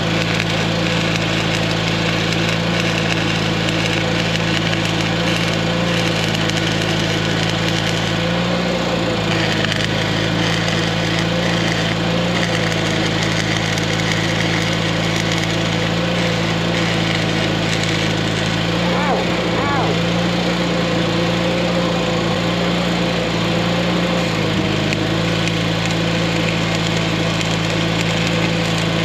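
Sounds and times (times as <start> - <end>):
welding arc crackling hiss: 0.0 - 20.7, 24.2 - 29.0
engine running: 0.0 - 29.0.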